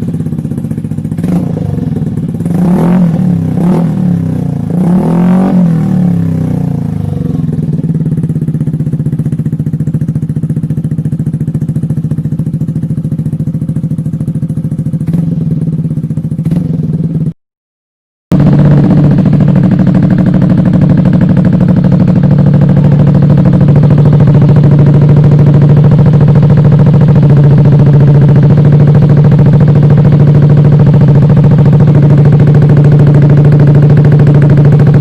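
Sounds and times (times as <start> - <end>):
scooter engine idling and revving: 0.0 - 17.4, 18.3 - 35.0.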